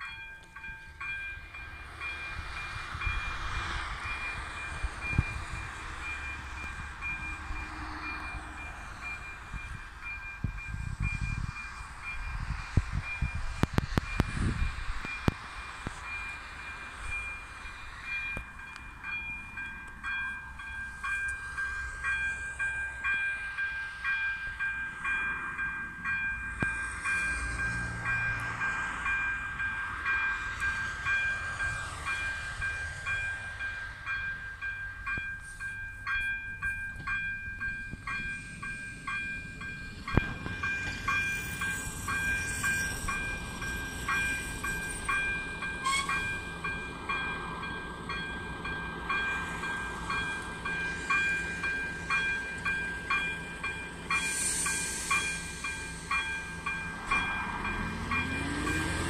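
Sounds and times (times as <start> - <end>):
level crossing warning bell dinging: 0.0 - 59.0.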